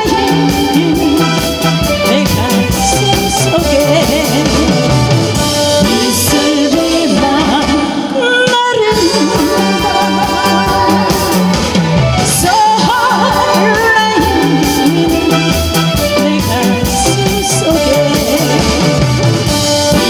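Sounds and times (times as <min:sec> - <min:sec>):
woman singing into microphone: 0:00.0 - 0:04.9, 0:05.7 - 0:11.6, 0:12.2 - 0:19.0
backing track with steady beat: 0:00.0 - 0:20.0.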